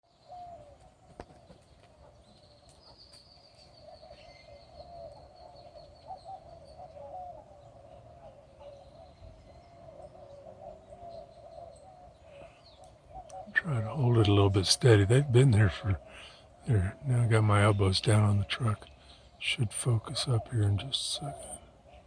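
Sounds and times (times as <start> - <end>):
low bird chatter: 0.0 - 22.0.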